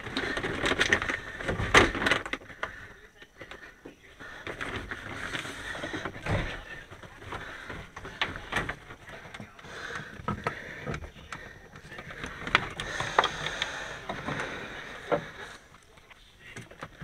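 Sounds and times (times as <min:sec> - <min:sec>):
hands rustling against wiring and hoses: 0:00.0 - 0:17.0.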